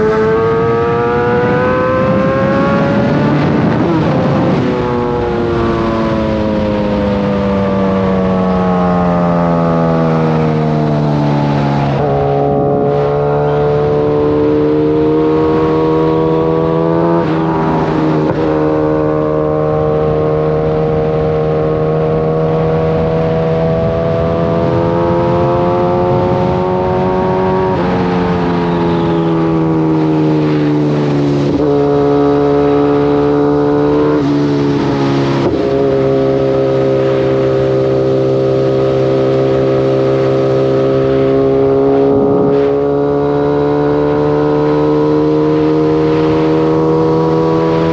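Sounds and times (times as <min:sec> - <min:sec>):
motorcycle engine shifting gears: 0:00.0 - 0:47.9.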